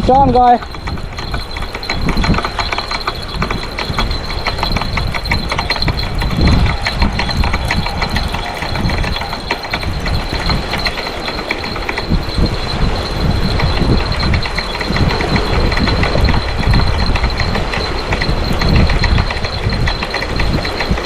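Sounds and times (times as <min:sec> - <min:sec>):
fishing reel clicking: 0:00.4 - 0:21.0.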